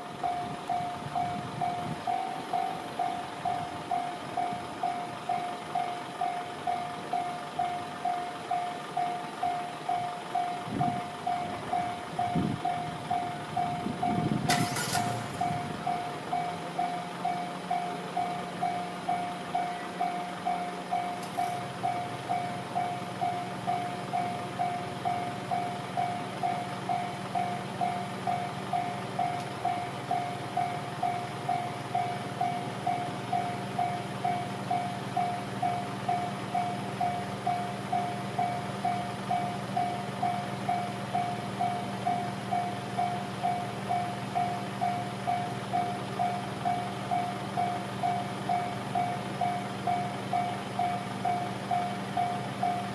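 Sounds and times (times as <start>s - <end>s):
electric locomotive hum: 0.0s - 52.9s.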